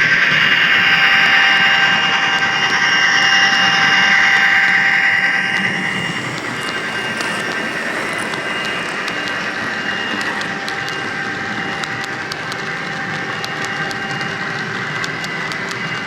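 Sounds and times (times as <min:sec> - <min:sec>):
model train whine and rumble: 0:00.0 - 0:16.0.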